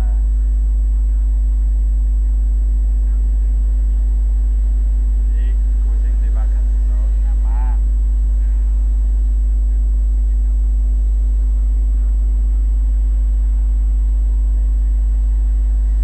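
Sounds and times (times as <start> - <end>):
faint steady tone: 0.0 - 16.0
low-pitched hum: 0.0 - 16.0.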